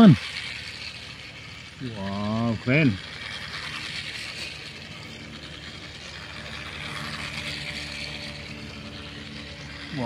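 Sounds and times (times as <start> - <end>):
toy train motor whirring: 0.0 - 10.0.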